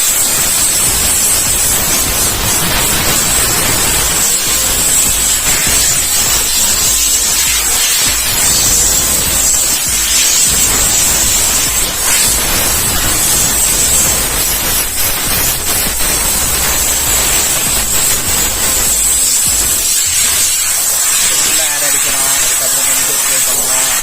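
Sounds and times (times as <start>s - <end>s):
cleaning jet spraying hiss: 0.0s - 24.0s.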